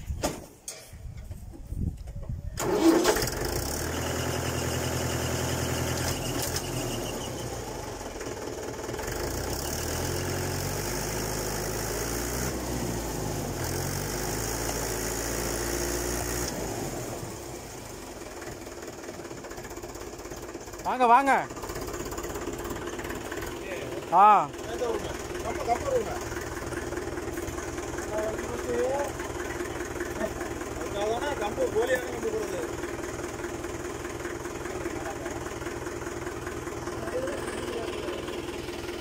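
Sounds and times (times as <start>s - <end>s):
tractor diesel engine starting: 2.2s - 39.0s.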